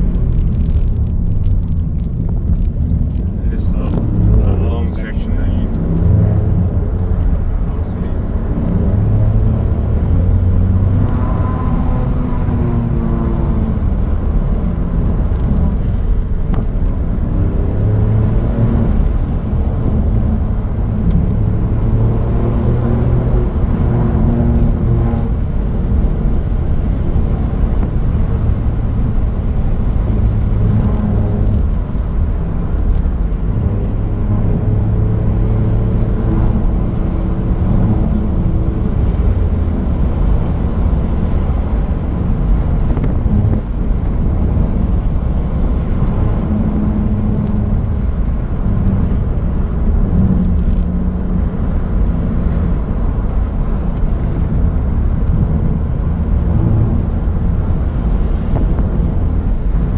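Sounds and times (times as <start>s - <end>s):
car engine revving: 0.0s - 59.9s
road and tyre noise: 0.0s - 59.9s.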